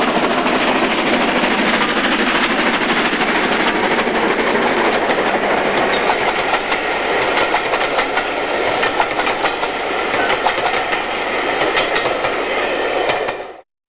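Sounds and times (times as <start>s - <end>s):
train wheels clattering on rails: 0.0s - 13.6s.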